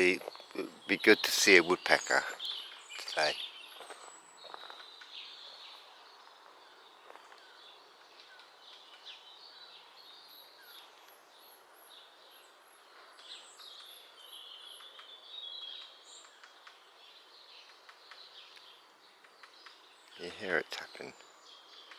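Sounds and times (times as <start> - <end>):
small birds calling: 0.0 - 21.9.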